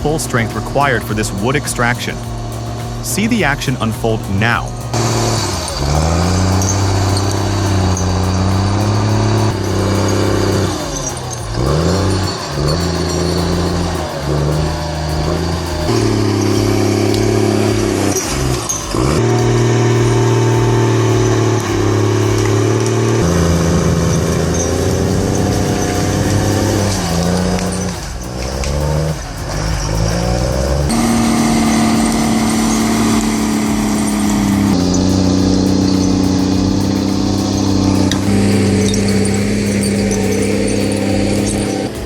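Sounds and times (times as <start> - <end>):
skidder diesel engine under load: 0.0 - 42.0.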